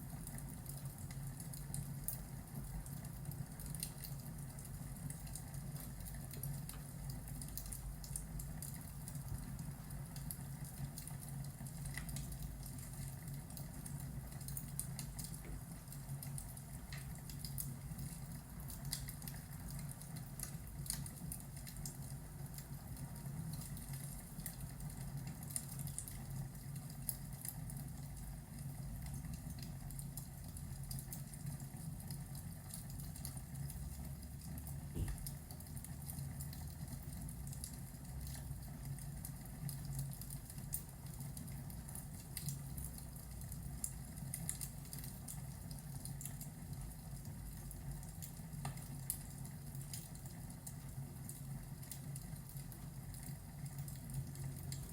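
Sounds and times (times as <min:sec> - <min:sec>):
fire crackling and popping: 0:00.0 - 0:54.9
fireplace low rumble: 0:00.0 - 0:54.9.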